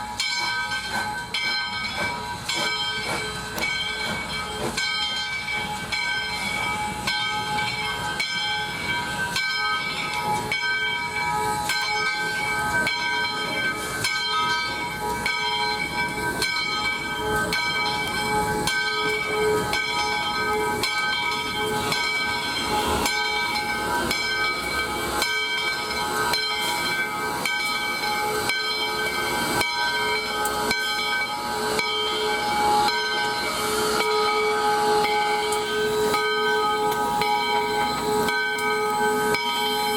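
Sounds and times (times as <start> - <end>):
steam locomotive hissing: 0.0 - 39.9
whistling tones in steam: 0.0 - 39.9.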